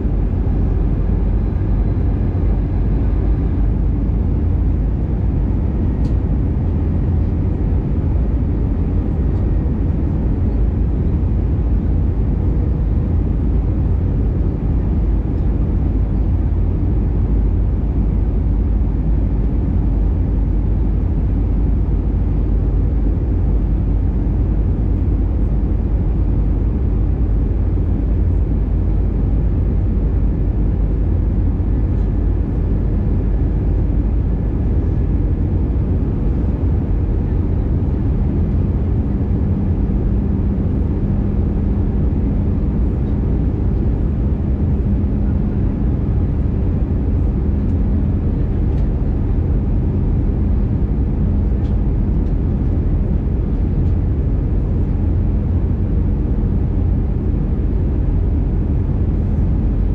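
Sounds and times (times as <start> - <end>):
airplane cabin engine rumble: 0.0 - 59.9
faint steady hum: 0.0 - 59.9.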